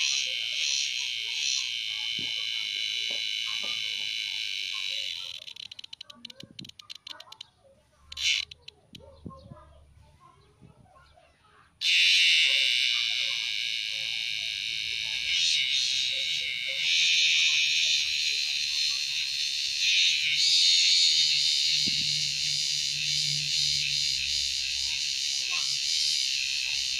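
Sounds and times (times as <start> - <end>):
cicada buzzing: 0.0 - 7.4, 8.1 - 8.7, 11.8 - 26.9.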